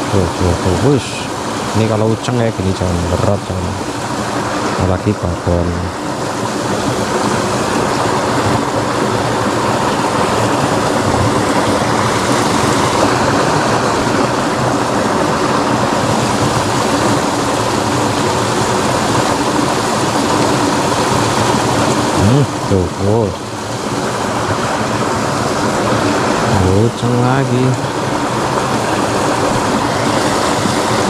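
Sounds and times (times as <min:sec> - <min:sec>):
water rushing along a ditch: 0:00.0 - 0:31.0.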